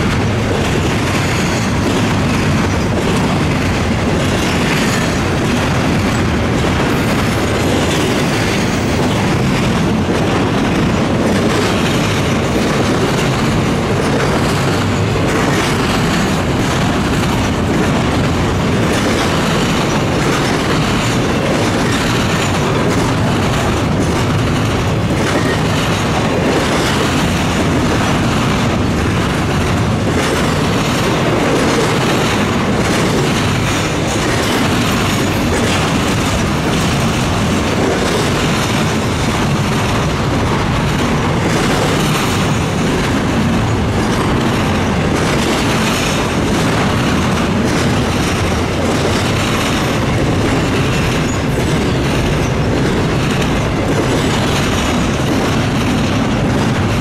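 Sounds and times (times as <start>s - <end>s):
train wheels rumbling on rail: 0.0s - 57.0s
wheels clicking over rail joints: 0.0s - 57.0s.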